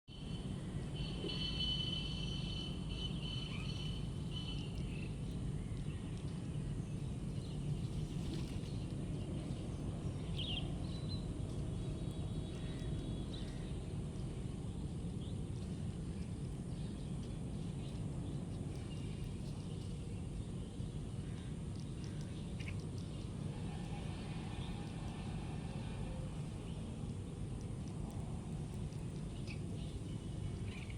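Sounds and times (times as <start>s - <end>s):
birds chirping: 0.1s - 25.2s, 26.0s - 30.9s
low background rumble: 0.1s - 30.9s.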